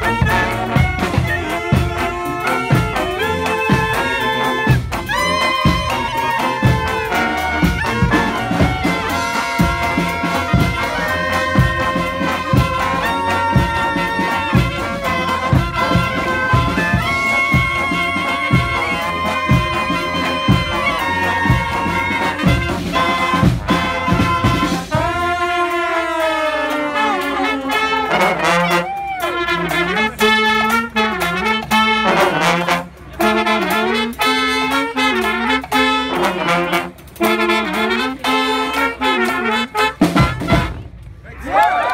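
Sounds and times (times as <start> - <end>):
brass band playing: 0.0 - 41.6.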